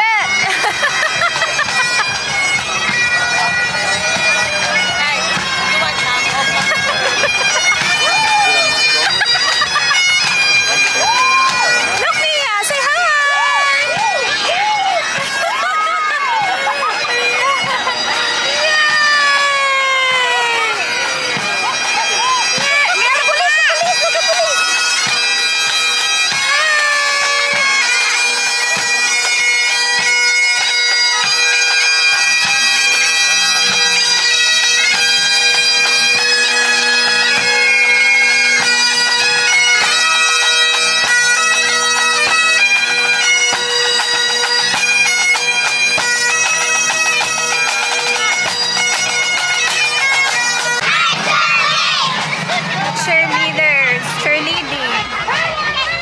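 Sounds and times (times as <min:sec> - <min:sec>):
bagpipes playing: 0:00.0 - 0:56.0.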